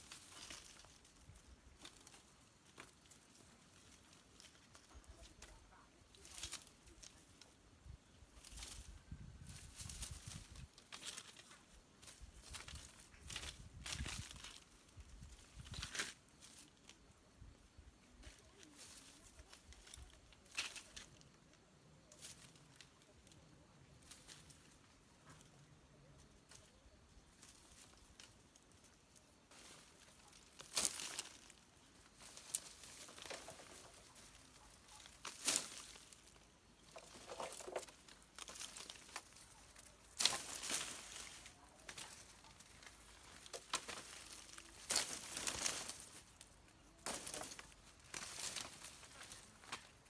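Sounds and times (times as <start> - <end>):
rustling and crackling: 0.0 - 50.0.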